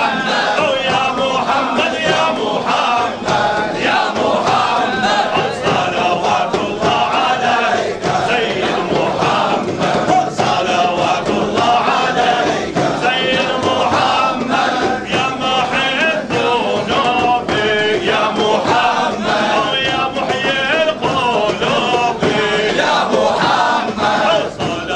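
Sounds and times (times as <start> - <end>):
crowd of men chanting: 0.0 - 24.9.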